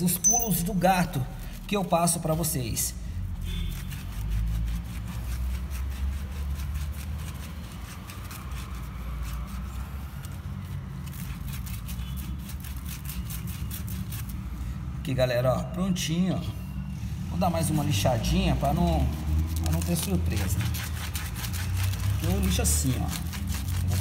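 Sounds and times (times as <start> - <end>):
sandpaper rubbing copper tube: 0.0 - 14.6, 18.2 - 24.0.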